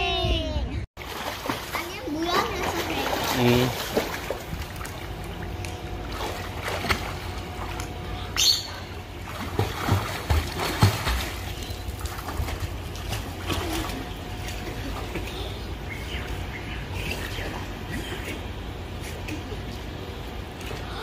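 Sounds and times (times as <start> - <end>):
pool water splashing: 1.0 - 21.0.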